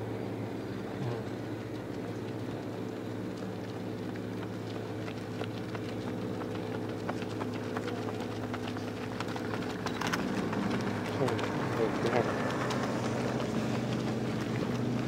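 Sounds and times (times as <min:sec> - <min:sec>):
footfalls slapping on pavement: 0:02.4 - 0:15.0.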